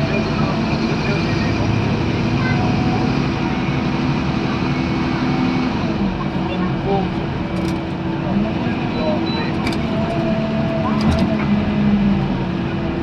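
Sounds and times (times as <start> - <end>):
bus diesel engine running: 0.0 - 13.0
road and body noise: 0.0 - 13.0.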